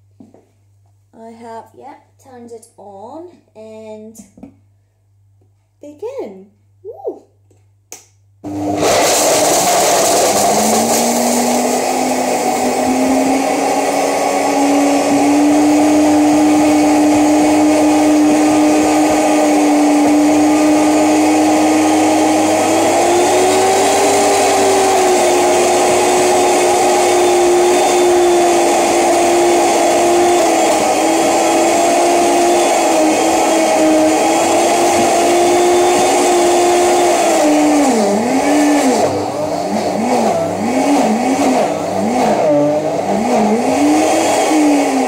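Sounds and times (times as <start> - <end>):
blender motor whining: 8.4 - 45.0.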